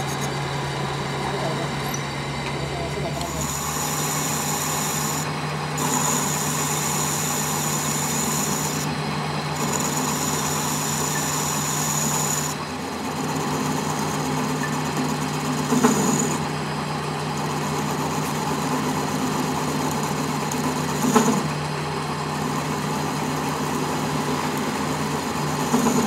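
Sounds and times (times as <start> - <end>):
metal lathe humming: 0.0 - 26.0.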